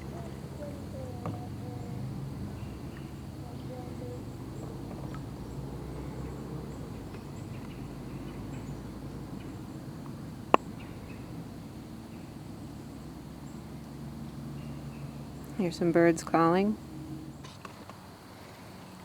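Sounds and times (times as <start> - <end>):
faint bird chirps: 0.0 - 17.6
low background noise: 0.0 - 19.0.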